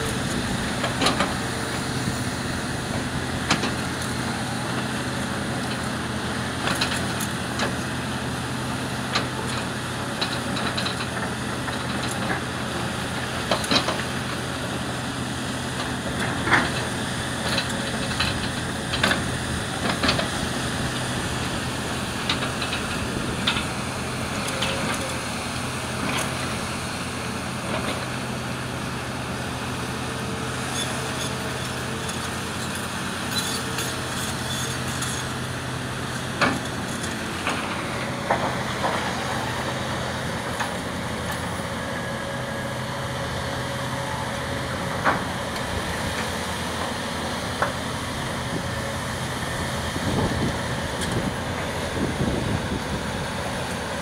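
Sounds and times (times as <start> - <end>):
excavator diesel engines running: 0.0 - 54.0.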